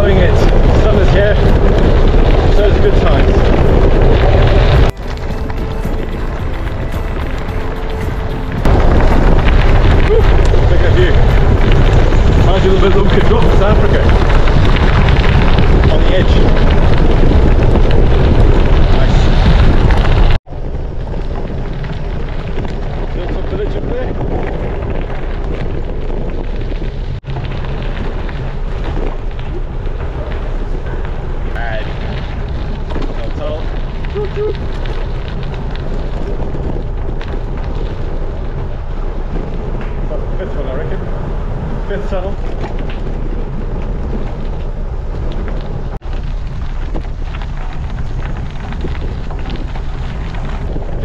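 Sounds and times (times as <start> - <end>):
bike tyres crunching on gravel: 0.0 - 51.0
wind rushing on microphone: 0.0 - 51.0.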